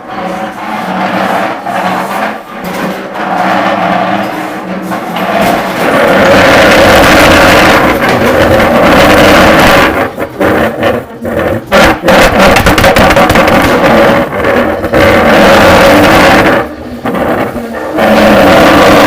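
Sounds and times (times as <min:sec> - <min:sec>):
loud distorted noise: 0:00.0 - 0:19.0
steady droning tones: 0:00.0 - 0:19.0.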